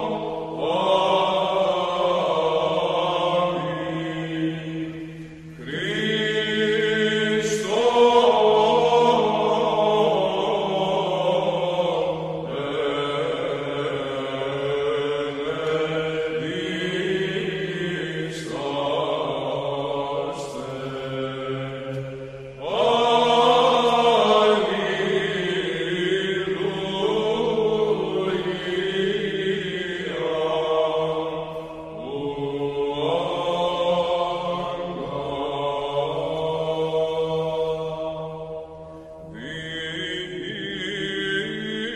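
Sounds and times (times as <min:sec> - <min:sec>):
slow vocal chanting: 0:00.0 - 0:41.9.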